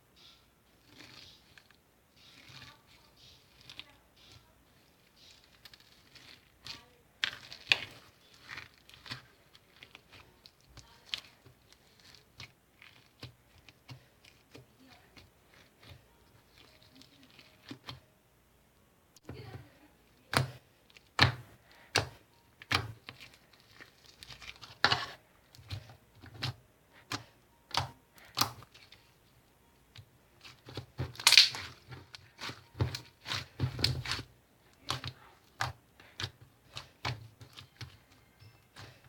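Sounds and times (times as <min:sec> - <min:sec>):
slime clicking and crackling: 0:00.7 - 0:18.1, 0:20.2 - 0:29.2, 0:29.9 - 0:39.0.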